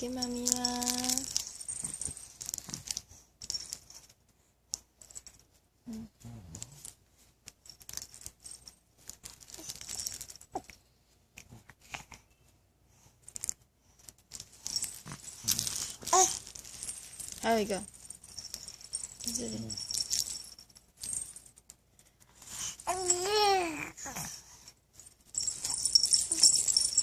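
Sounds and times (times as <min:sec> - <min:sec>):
rustling and crinkling: 0:00.0 - 0:27.0.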